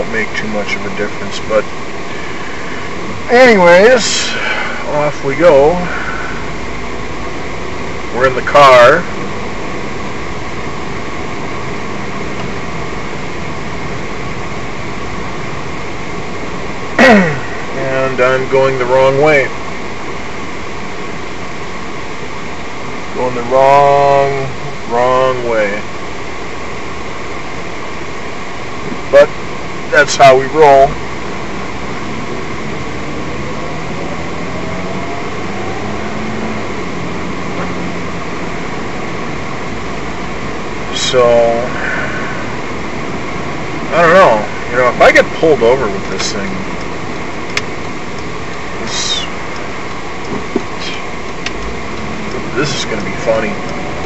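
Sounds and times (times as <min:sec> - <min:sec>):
car cabin road and engine noise: 0:00.0 - 0:54.0.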